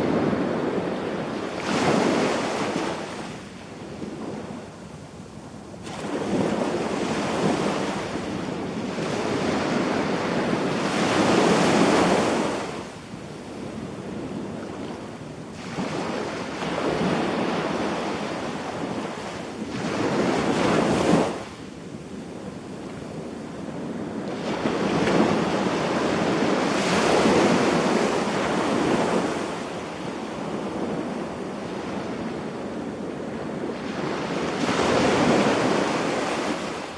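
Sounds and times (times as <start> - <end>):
waves breaking on a beach: 0.0 - 36.9.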